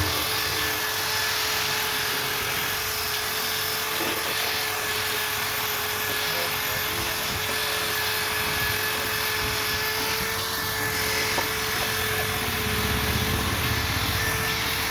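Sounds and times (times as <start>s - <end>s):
router spindle whine: 0.0s - 14.9s.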